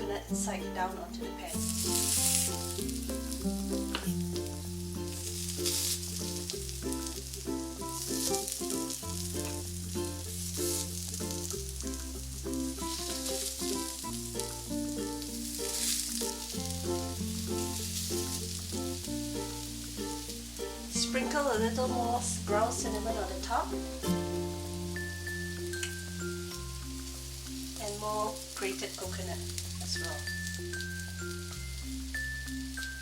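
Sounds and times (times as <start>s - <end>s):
light background music: 0.0s - 33.0s
food sizzling in oil: 1.5s - 33.0s.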